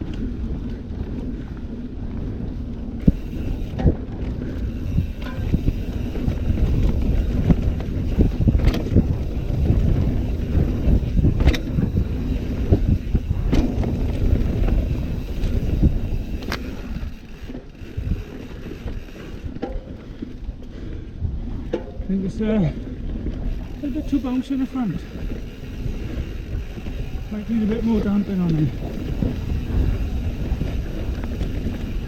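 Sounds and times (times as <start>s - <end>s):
wind on microphone: 0.0s - 24.4s, 25.0s - 32.0s
bike knocking and clattering: 0.0s - 32.0s
tyres rumbling on rough ground: 0.0s - 32.0s.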